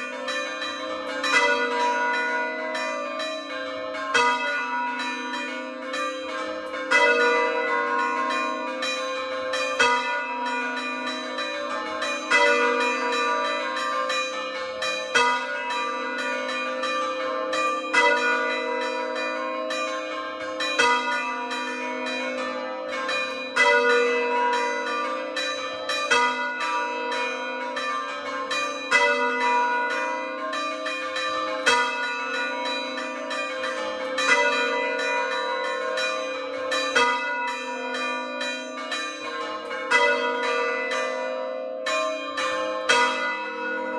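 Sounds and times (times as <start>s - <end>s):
hand-rung church bells: 0.0s - 43.9s.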